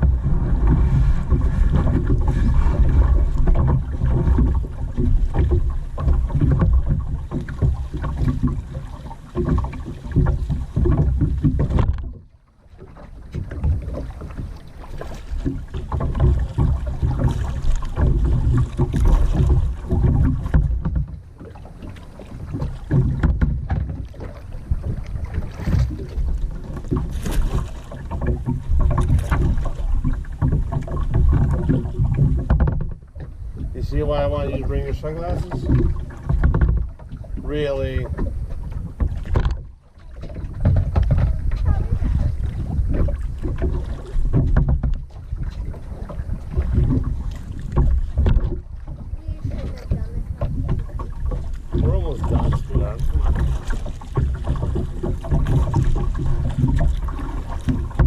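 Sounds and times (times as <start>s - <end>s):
wind buffeting microphone: 0.0s - 12.1s, 13.1s - 58.0s
water splashing around kayak: 0.0s - 58.0s.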